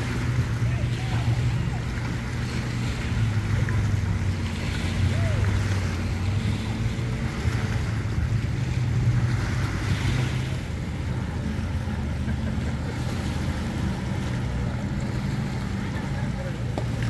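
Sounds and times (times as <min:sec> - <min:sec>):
choppy water lapping: 0:00.0 - 0:17.0
outboard boat motors humming: 0:00.0 - 0:17.0
wind: 0:00.0 - 0:17.0.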